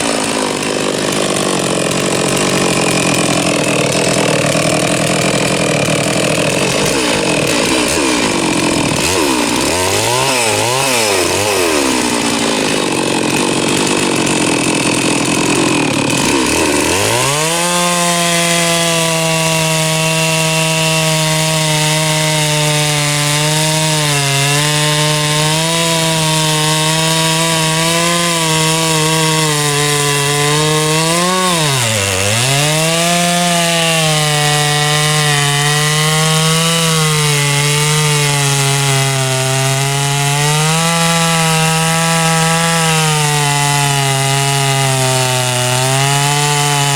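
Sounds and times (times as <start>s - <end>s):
chainsaw cutting through log: 0.0s - 46.9s.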